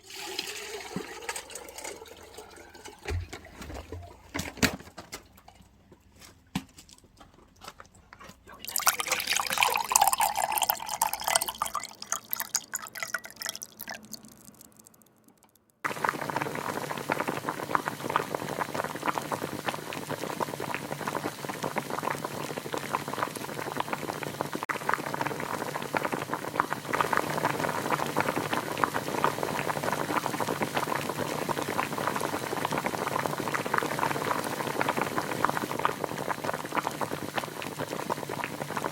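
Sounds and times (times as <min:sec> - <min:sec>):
water poured into a pot: 0:00.0 - 0:04.4, 0:08.6 - 0:15.0, 0:15.9 - 0:38.9
water boiling in a pot: 0:00.0 - 0:04.7, 0:08.5 - 0:15.0, 0:15.8 - 0:38.9.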